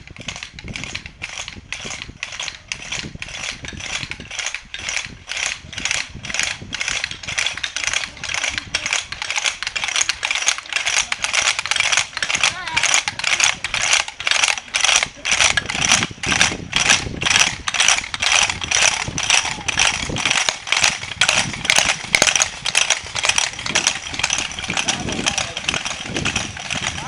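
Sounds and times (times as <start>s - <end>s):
wooden hand rattles clattering: 0.0s - 27.0s.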